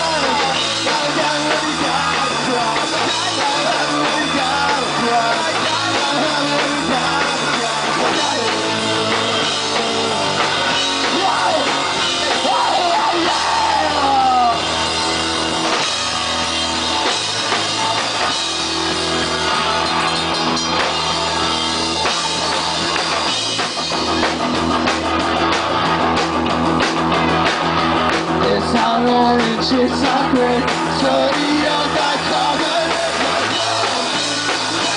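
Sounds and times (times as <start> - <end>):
bass guitar: 0.0 - 34.9
drum kit: 0.0 - 34.9
electric guitar: 0.0 - 34.9.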